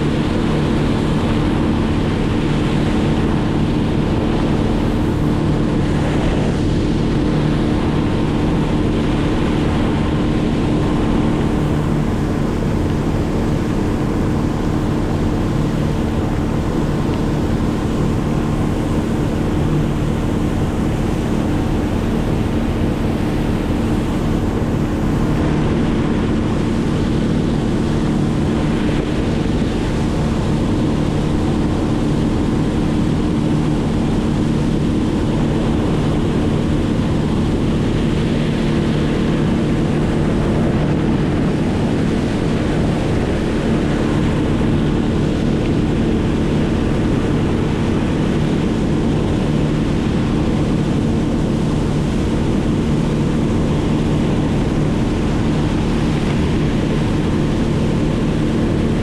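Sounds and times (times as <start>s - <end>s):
engine droning hum: 0.0s - 59.0s.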